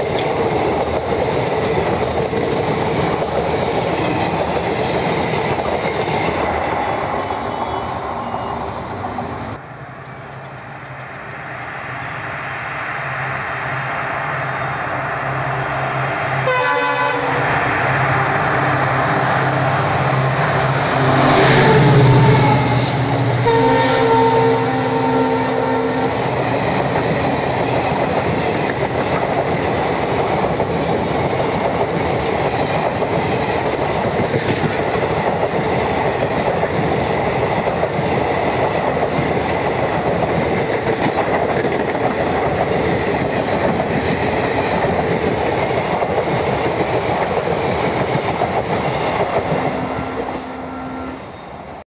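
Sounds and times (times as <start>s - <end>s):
train wheels rumbling and clattering: 0.0s - 12.6s, 17.4s - 50.4s.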